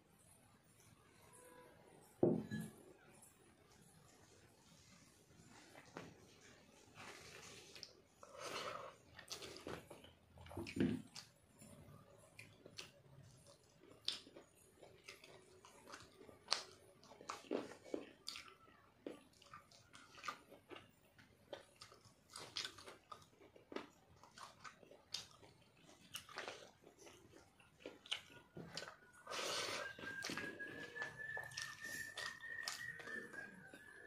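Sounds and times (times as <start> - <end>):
man chewing food: 4.3 - 34.0.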